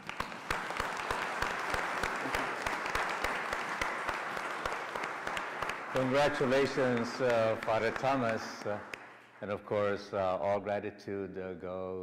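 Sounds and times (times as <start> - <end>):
crowd clapping: 0.0 - 10.0.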